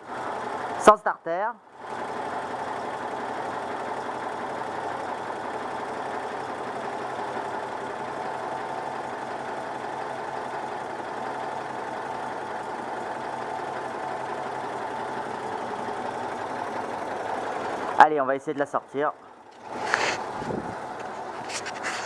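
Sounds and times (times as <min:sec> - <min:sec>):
car engine idling: 0:00.0 - 0:01.0, 0:01.7 - 0:22.0.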